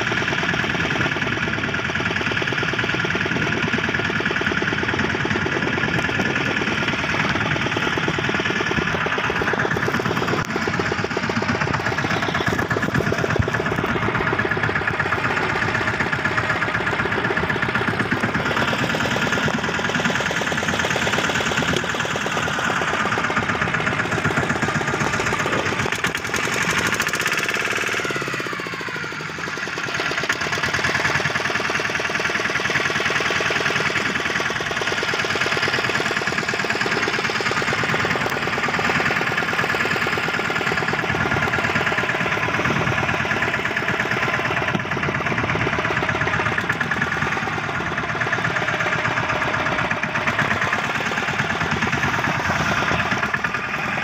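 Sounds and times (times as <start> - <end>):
boat engine pulsing: 0.0 - 54.0.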